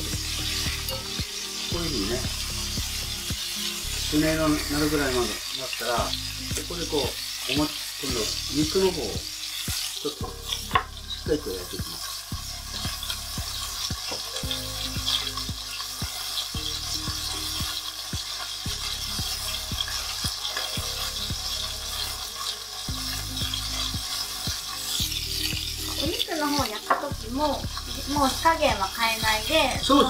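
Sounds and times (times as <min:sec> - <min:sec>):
meat sizzling in a skillet: 0:00.0 - 0:30.0.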